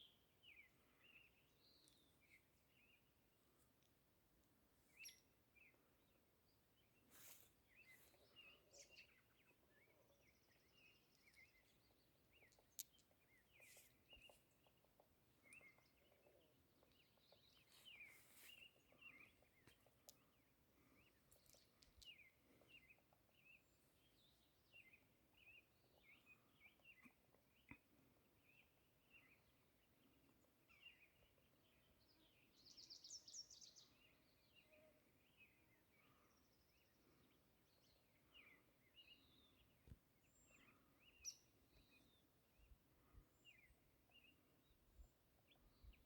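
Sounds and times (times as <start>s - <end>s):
faint bird chirps: 4.8s - 6.2s, 6.8s - 46.0s.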